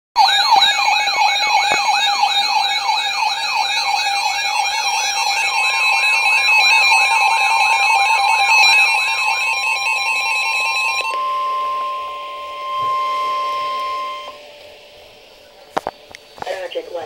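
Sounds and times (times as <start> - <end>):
weather radio alarm warble: 0.2 - 17.0.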